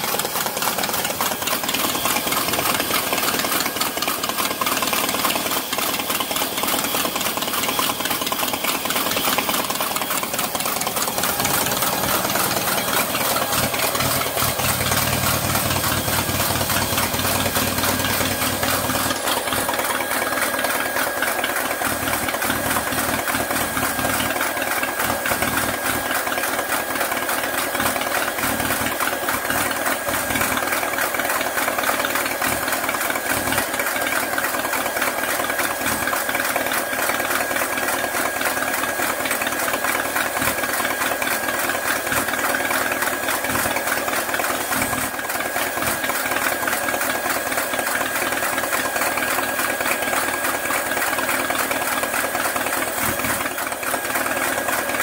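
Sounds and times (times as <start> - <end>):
small gasoline engine running: 0.0 - 55.0.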